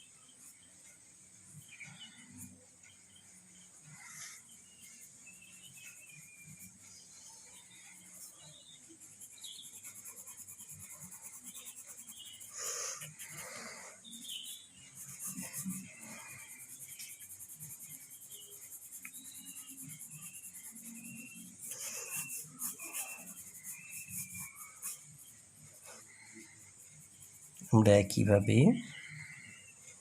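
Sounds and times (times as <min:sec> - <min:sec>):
pencil scratching on paper: 0:01.5 - 0:30.0.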